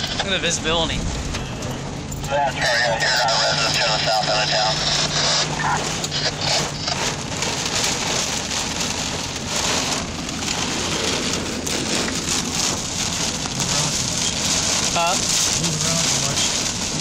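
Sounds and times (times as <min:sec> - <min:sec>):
heavy rain drumming on car roof: 0:00.0 - 0:17.0.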